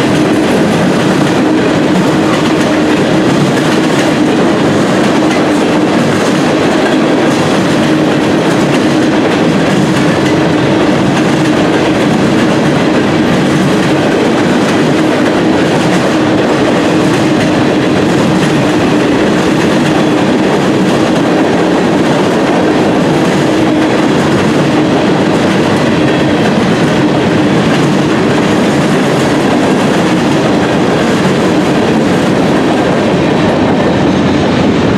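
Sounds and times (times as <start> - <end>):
train wheels rumbling on rail: 0.0 - 34.9.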